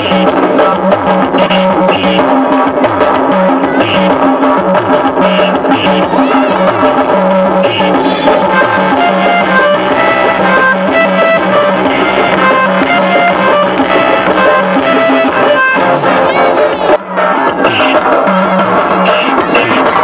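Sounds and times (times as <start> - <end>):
loud dance music: 0.0 - 20.0.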